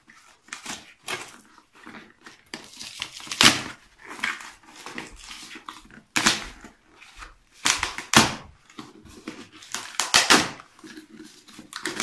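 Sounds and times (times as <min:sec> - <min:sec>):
packaging torn and crumpled: 0:00.1 - 0:06.8, 0:07.6 - 0:12.0.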